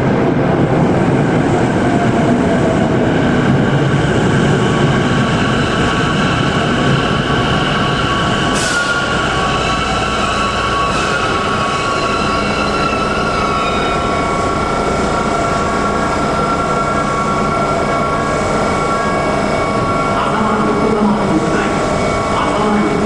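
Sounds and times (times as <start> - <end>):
electric train slowing to a stop: 0.5 - 23.0.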